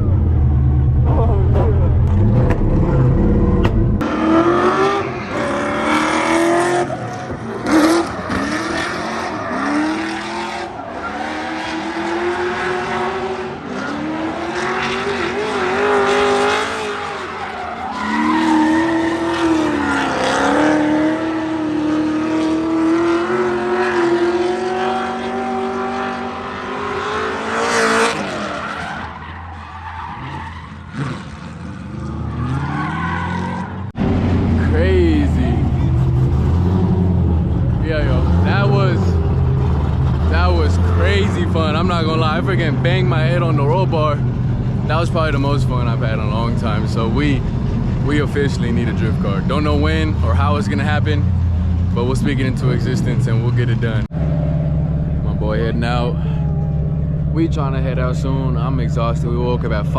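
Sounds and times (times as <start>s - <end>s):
car engine revving: 0.0s - 59.9s
tyres skidding and squealing: 0.0s - 59.9s.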